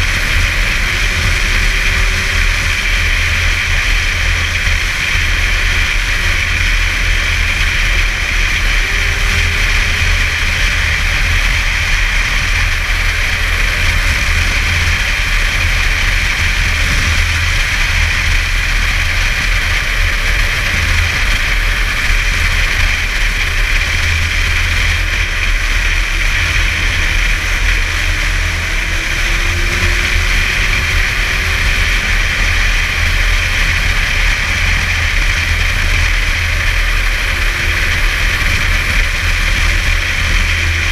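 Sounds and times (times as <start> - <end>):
snowmobile engine rumble: 0.0 - 40.9.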